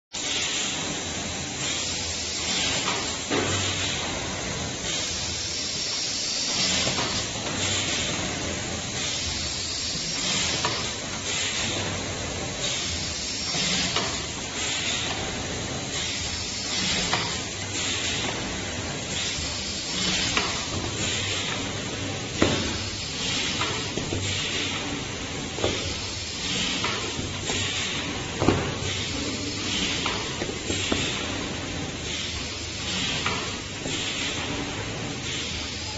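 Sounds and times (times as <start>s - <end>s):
wrapping machine hiss: 0.2s - 35.9s.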